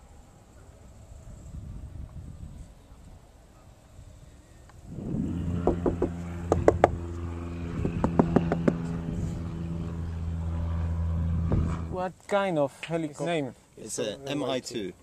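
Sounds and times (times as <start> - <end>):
low mechanical hum: 0.0 - 12.2.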